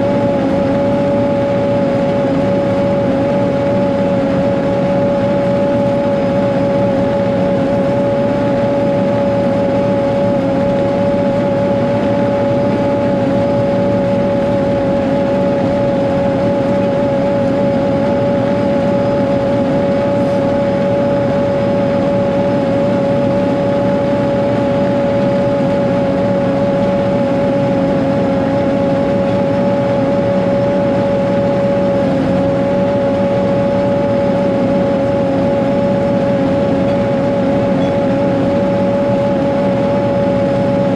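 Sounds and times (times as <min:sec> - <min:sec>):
diesel grader engine droning: 0:00.0 - 0:40.9
steady high whine: 0:00.0 - 0:40.9.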